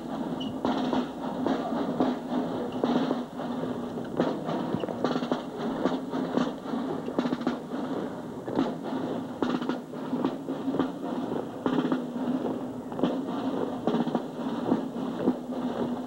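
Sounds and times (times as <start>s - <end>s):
marching drum line: 0.0s - 16.0s.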